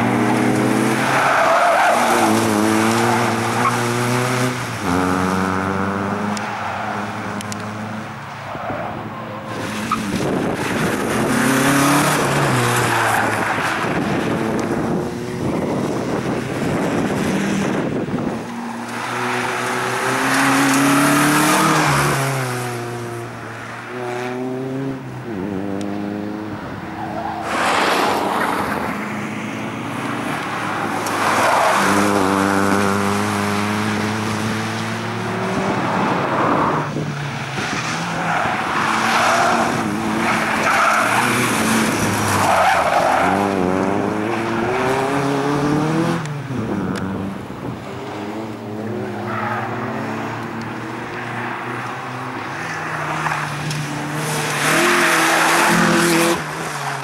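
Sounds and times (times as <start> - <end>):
car engine revving: 0.0 - 8.1, 9.6 - 57.0.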